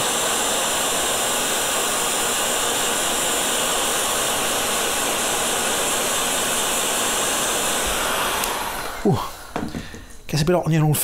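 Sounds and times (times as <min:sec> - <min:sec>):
heat gun blowing: 0:00.0 - 0:10.3.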